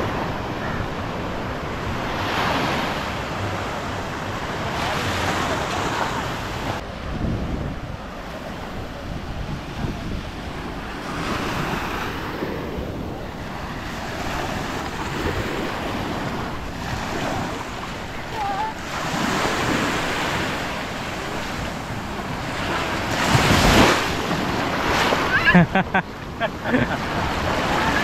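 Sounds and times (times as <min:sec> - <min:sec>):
small waves breaking on beach: 0:00.0 - 0:28.0
wind rumbling on microphone: 0:00.0 - 0:28.0.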